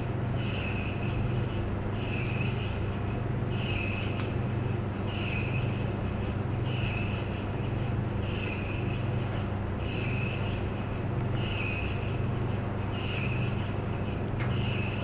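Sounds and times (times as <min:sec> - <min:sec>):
clothes dryer humming: 0:00.0 - 0:15.0.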